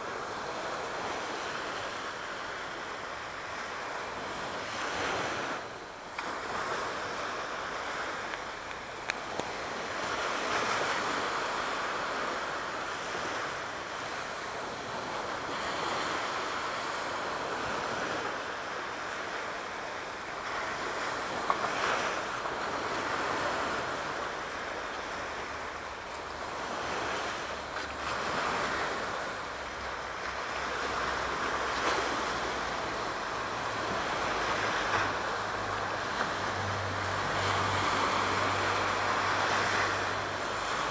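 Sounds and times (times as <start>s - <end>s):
sea waves washing in: 0.0s - 40.9s.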